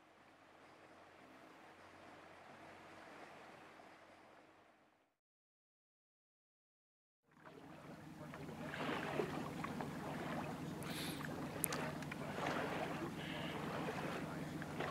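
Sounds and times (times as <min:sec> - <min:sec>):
rushing water: 0:00.0 - 0:04.8, 0:07.3 - 0:14.9
boat motor humming: 0:00.0 - 0:04.9, 0:07.3 - 0:14.9.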